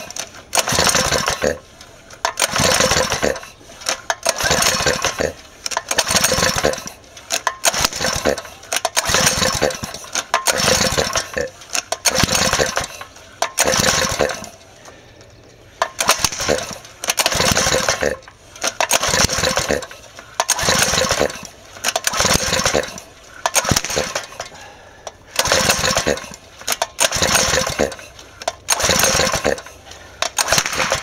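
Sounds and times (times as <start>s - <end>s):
recoil starter cranking: 0.0s - 31.0s.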